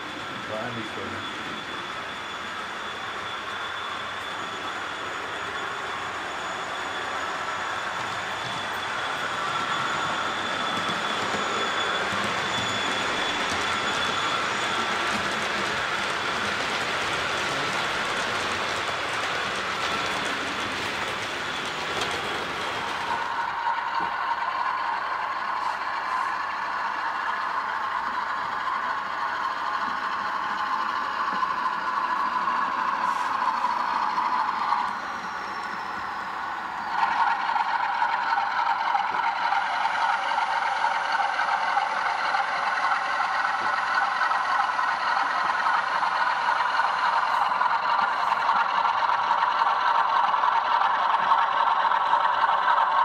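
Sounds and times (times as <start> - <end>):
model train motor whir: 0.5 - 53.0.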